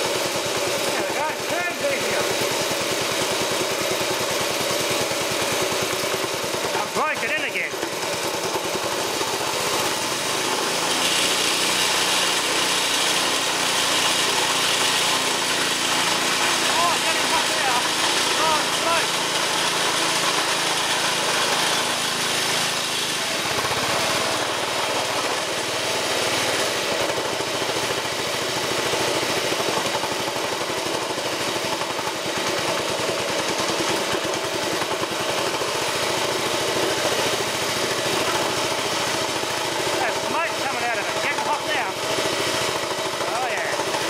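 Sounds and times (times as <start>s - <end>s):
small petrol engine running: 0.0s - 44.0s.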